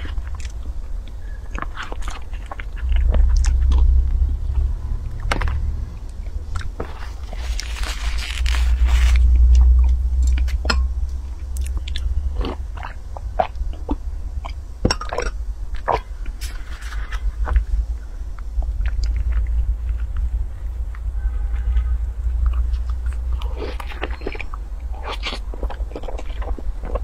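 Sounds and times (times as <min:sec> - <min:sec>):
chewing soft cake: 0:00.0 - 0:27.0
steady low hum: 0:00.0 - 0:27.0.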